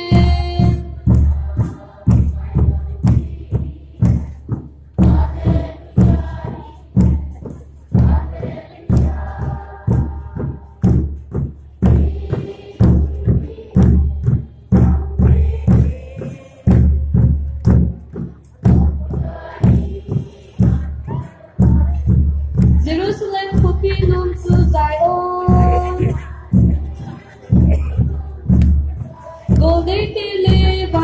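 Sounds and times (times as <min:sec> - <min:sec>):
group singing a chant: 0:00.0 - 0:31.0
large drum beating: 0:00.0 - 0:31.0.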